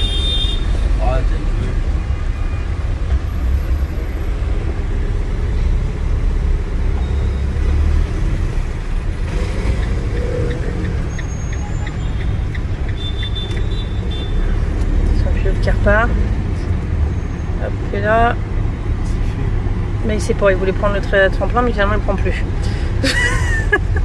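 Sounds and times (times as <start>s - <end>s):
engine and road rumble: 0.0s - 24.0s.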